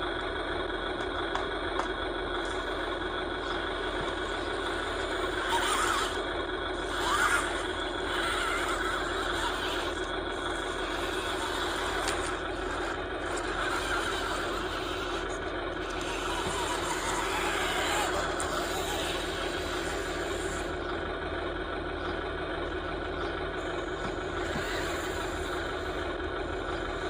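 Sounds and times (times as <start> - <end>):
electric motor and gear whine: 0.0 - 27.0.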